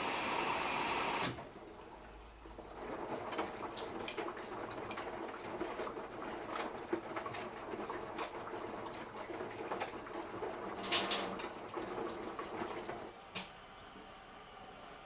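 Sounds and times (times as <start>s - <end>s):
water sloshing in washing machine: 0.0s - 15.0s.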